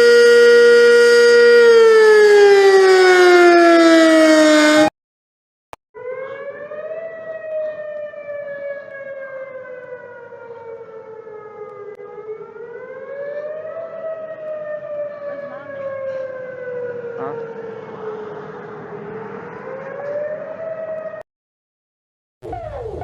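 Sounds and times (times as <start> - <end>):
warning siren wailing: 0.0 - 4.9, 6.0 - 21.2, 22.4 - 23.0.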